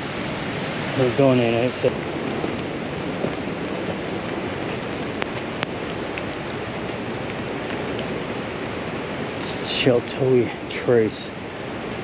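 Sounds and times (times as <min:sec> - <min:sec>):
fast-flowing river water: 0:00.0 - 0:12.0.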